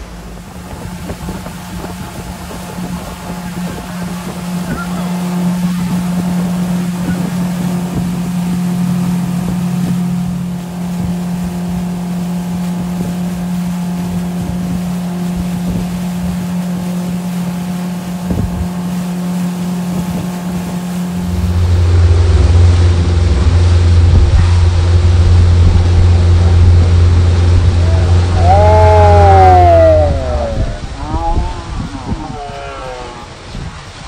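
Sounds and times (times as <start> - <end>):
deep steady hum: 0.0 - 33.7
motorboat engine running: 0.0 - 34.0
rushing wind: 0.0 - 34.0
water noise: 0.0 - 34.0.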